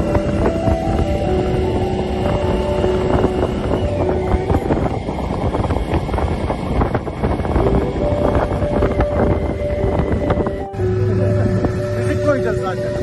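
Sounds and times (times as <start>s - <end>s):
music of long held notes: 0.0s - 13.0s.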